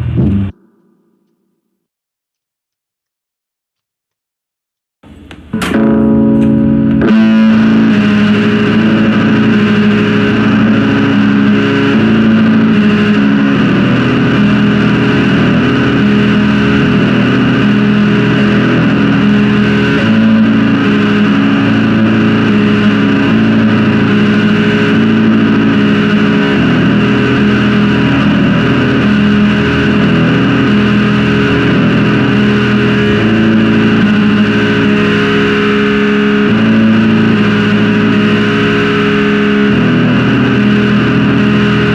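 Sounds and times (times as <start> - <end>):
distorted electric guitar chords: 0.0 - 1.9, 5.0 - 41.9.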